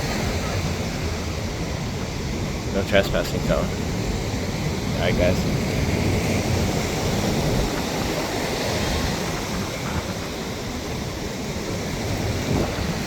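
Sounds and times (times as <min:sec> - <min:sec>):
ocean surf on a beach: 0:00.0 - 0:13.0
wind rumbling on microphone: 0:00.0 - 0:13.0.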